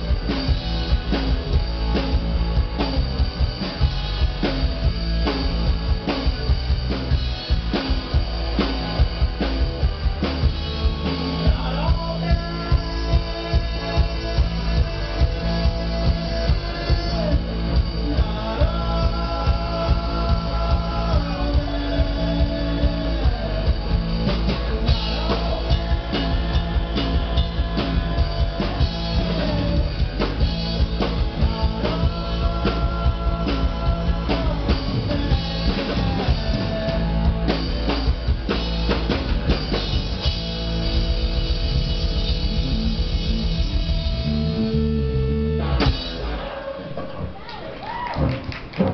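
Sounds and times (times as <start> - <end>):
drum kit beat: 0.0 - 44.7, 45.8 - 46.5
guitar: 0.0 - 48.9
rock band playing: 0.0 - 48.9.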